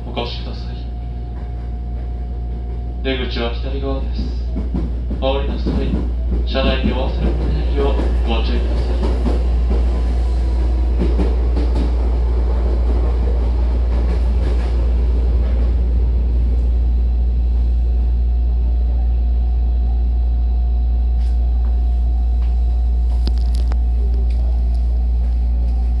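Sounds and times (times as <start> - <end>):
deep rumble: 0.0 - 26.0
train running noise: 0.0 - 26.0.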